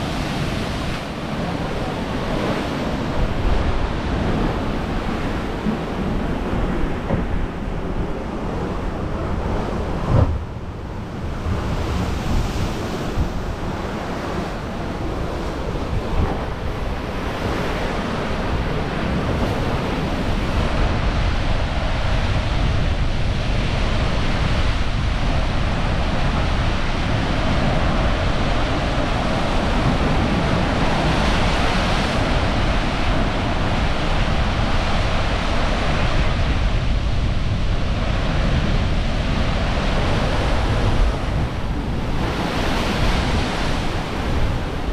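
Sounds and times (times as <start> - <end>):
surf crashing against cliffs: 0.0 - 44.9
wind buffeting microphone: 0.0 - 44.9.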